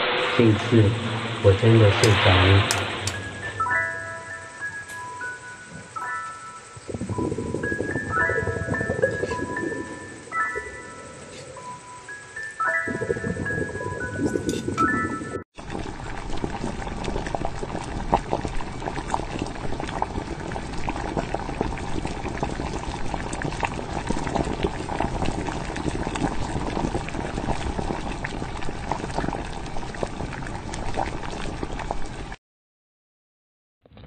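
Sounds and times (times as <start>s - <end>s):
liquid bubbling at a boil: 2.0s - 32.4s.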